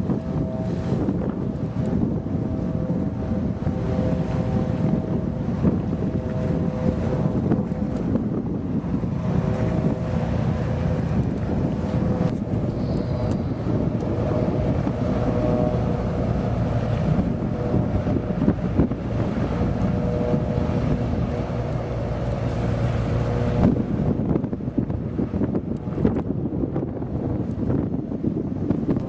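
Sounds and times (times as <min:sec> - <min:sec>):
boat engine running: 0:00.0 - 0:29.0
wind buffeting microphone: 0:00.0 - 0:29.0.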